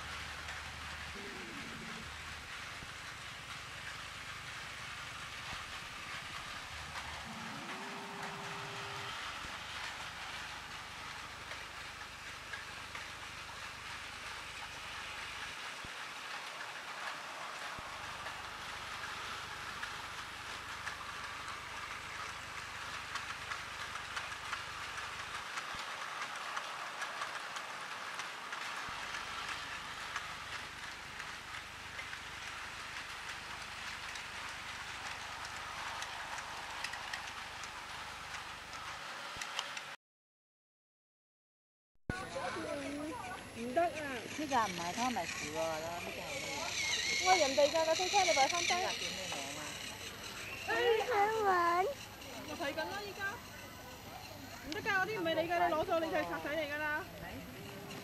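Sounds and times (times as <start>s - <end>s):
toy train whirring: 0.0s - 40.0s, 42.1s - 58.0s.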